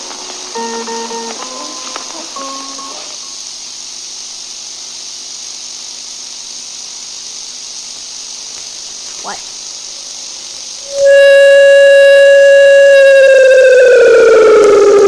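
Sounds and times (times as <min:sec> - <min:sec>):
static hiss: 0:00.0 - 0:12.9.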